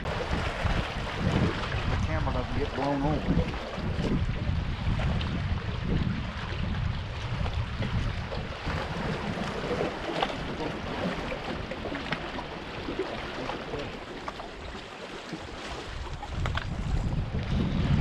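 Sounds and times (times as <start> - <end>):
river water lapping on rocks: 0.0 - 18.0
wind buffeting microphone: 0.0 - 18.0.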